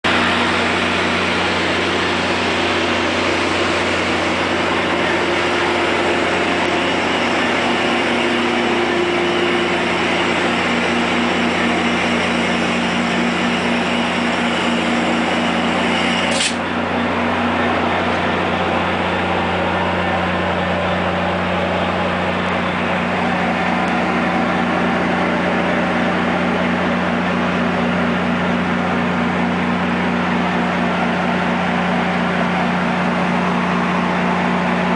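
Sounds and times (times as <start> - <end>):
diesel locomotive engine idling: 0.0 - 34.9.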